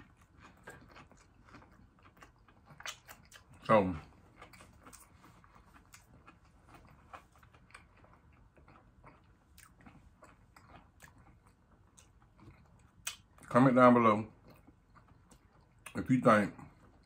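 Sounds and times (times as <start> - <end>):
close chewing with mouth clicks: 0.0 - 13.6, 14.3 - 17.0.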